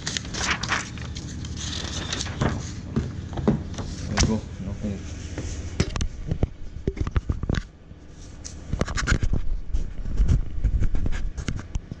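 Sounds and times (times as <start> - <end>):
low steady rumble: 0.0 - 11.4.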